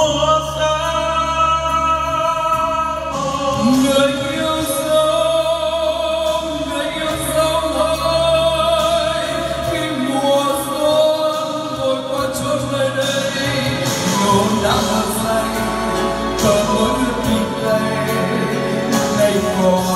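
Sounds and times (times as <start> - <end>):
karaoke backing track: 0.0 - 19.9
man singing into microphone: 0.0 - 19.9.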